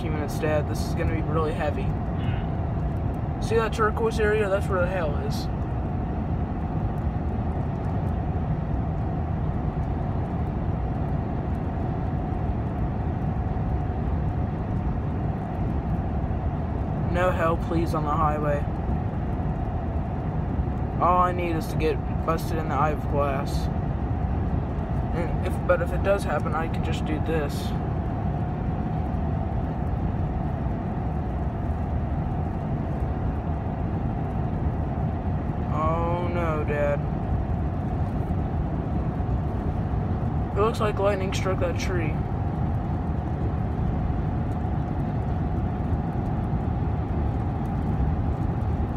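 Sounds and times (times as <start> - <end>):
faint steady whine: 0.0 - 48.9
truck cabin road noise: 0.0 - 48.9.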